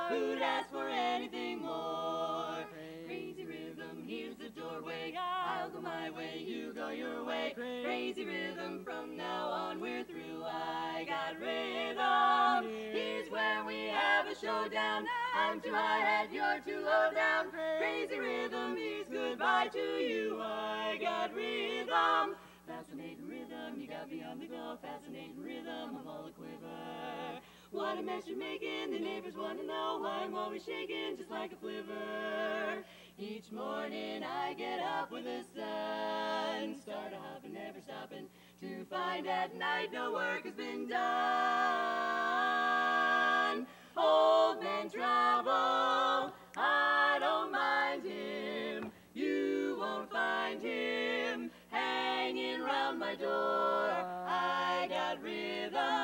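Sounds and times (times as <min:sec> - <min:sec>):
women singing a cappella harmony: 0:00.0 - 0:56.0.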